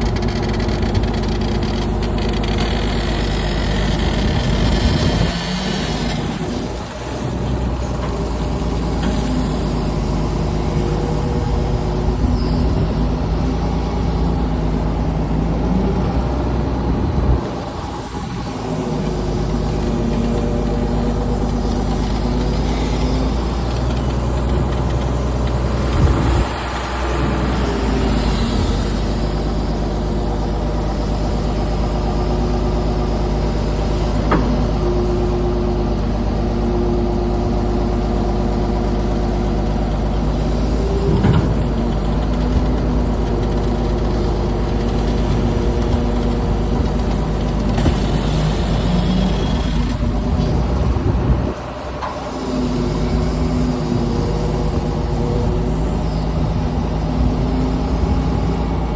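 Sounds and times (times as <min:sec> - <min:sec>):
heavy machine engine running: 0:00.0 - 0:58.9.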